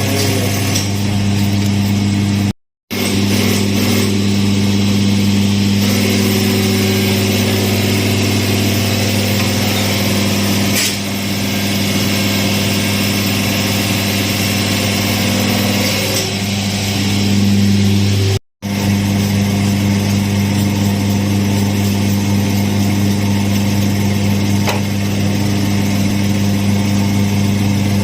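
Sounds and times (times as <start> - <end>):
machine deep hum: 0.0 - 28.0.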